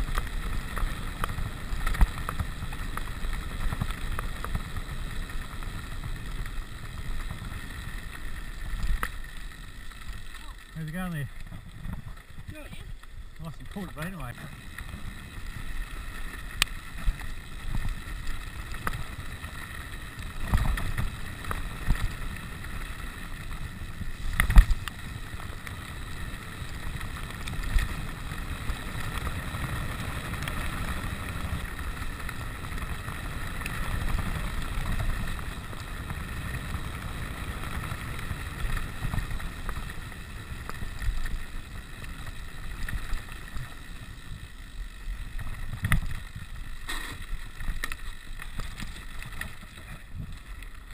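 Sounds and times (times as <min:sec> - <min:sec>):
mountain bike rattling on gravel: 0:00.0 - 0:50.9.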